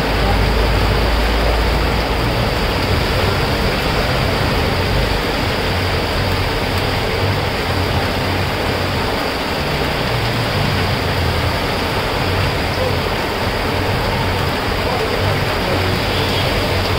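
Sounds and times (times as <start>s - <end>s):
heavy rain on a wet road: 0.0s - 16.9s
vehicles passing on wet road: 0.0s - 16.9s.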